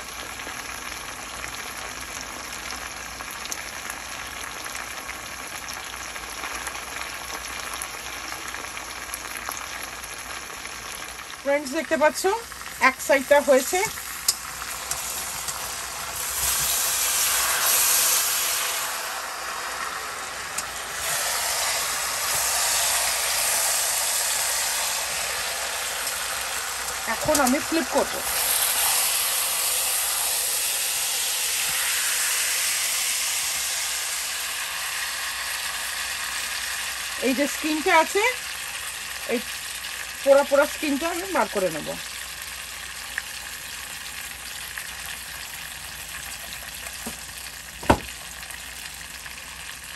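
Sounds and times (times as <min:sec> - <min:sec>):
chicken sizzling in oil: 0:00.0 - 0:49.9
oil popping and crackling: 0:00.0 - 0:49.9.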